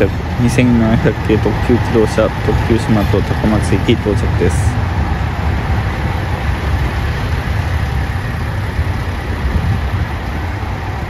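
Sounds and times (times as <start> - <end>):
diesel railcar engine rumble: 0.0 - 11.0.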